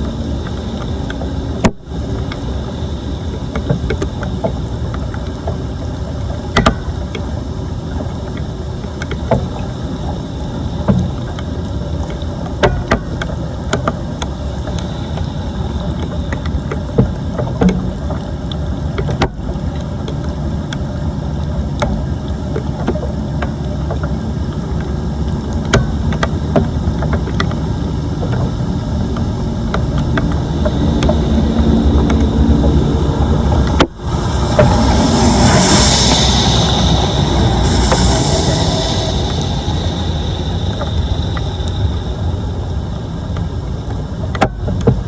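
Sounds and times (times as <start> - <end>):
floodwater rushing into drain: 0.0 - 45.0.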